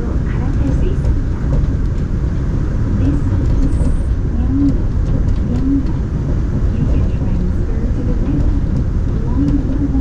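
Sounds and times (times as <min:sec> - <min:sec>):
monorail train rumbling: 0:00.0 - 0:10.0.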